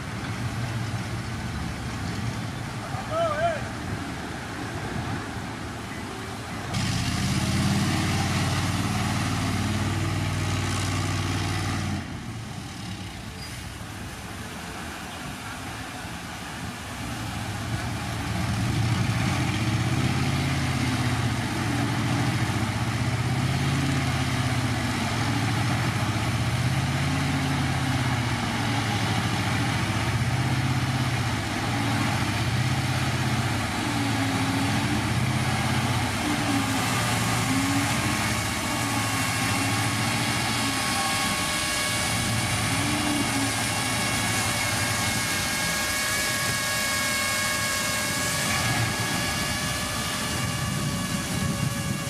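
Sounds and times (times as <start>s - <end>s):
heavy diesel machinery engines: 0.0s - 52.0s.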